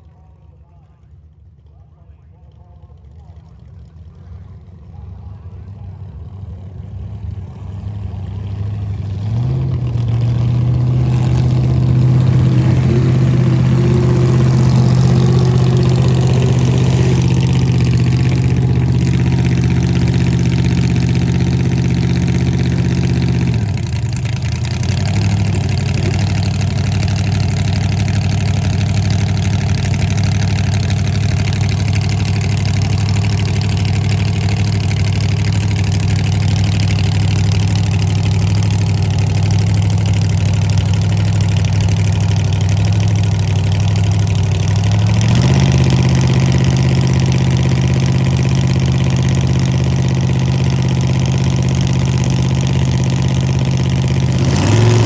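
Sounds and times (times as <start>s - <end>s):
race car engine idling: 0.0s - 55.0s.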